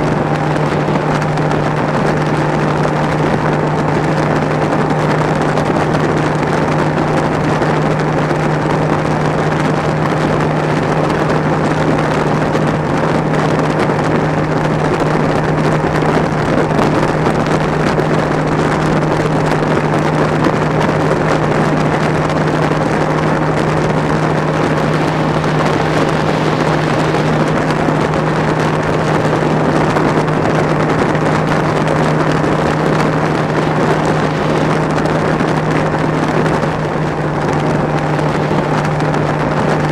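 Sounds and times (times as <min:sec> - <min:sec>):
outboard motor running: 0:00.0 - 0:39.9
rush of wind and water: 0:00.0 - 0:39.9.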